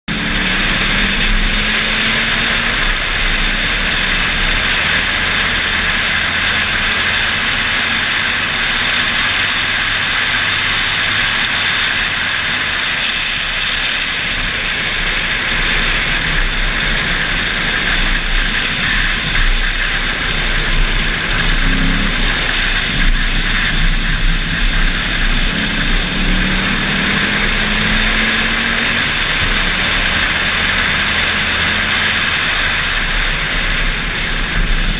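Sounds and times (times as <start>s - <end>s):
car engine accelerating: 0.1s - 34.9s
wind rush on microphone: 0.1s - 34.9s.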